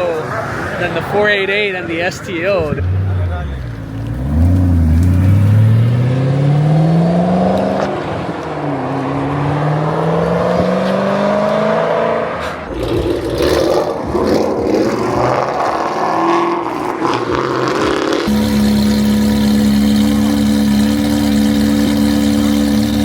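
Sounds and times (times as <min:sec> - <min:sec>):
cars pulling away: 0:00.0 - 0:23.0
car engine accelerating hard: 0:02.6 - 0:23.0.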